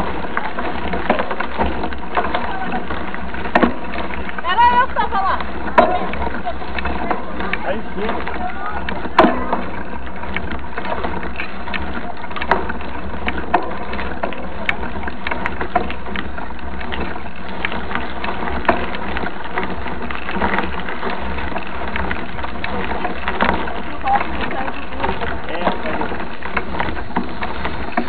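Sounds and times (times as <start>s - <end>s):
bike clicks and rattles: 0.0s - 28.0s
bike tyres and wind rumbling: 0.0s - 28.0s.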